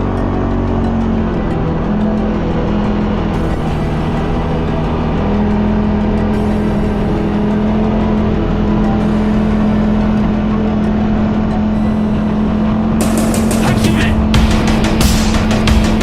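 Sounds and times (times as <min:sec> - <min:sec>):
music: 0:00.0 - 0:16.0
quad bike engine running: 0:00.0 - 0:16.0.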